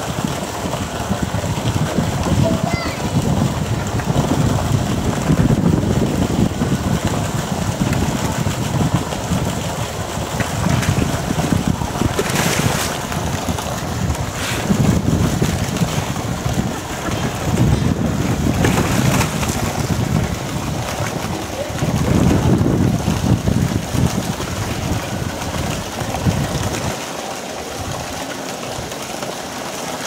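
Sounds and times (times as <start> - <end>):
wind buffeting microphone: 0.0 - 27.0
water splashing: 0.0 - 30.0.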